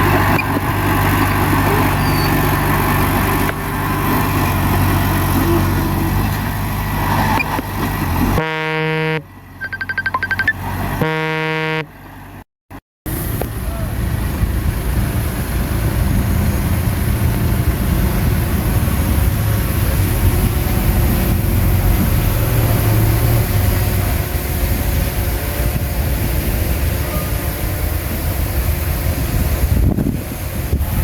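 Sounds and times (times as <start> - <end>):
bulldozer diesel engine rumbling: 0.0 - 12.4, 13.1 - 31.0.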